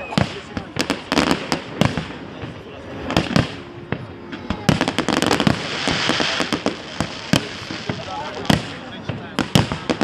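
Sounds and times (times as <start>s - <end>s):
fireworks bangs: 0.0s - 10.0s
fireworks crackling with hiss: 0.0s - 10.0s.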